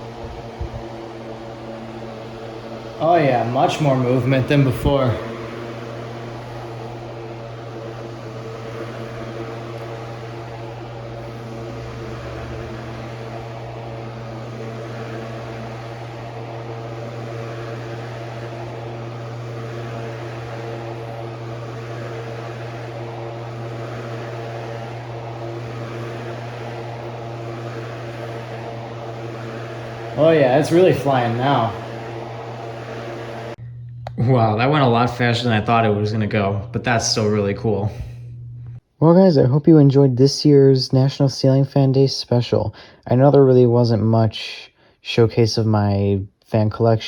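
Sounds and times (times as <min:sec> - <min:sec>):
desk fan motor hum: 0:00.0 - 0:38.9.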